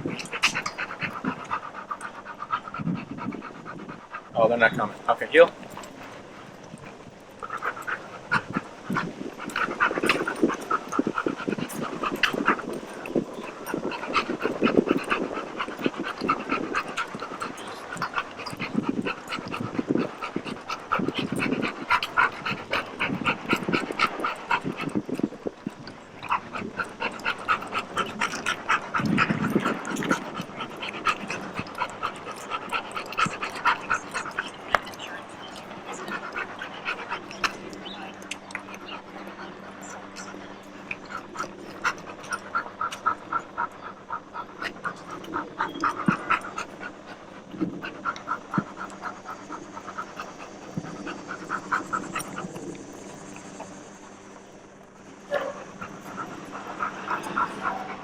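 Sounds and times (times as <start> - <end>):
dog panting: 0.0 - 58.0.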